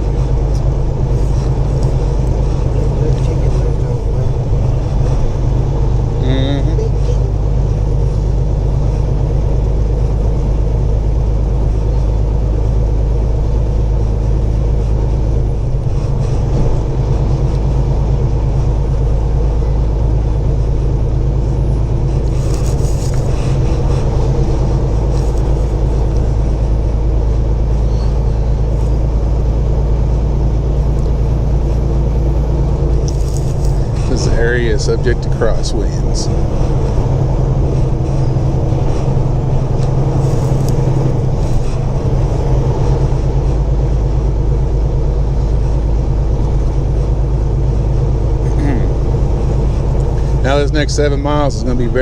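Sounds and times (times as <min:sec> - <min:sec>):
truck diesel engine and road drone: 0:00.0 - 0:52.0.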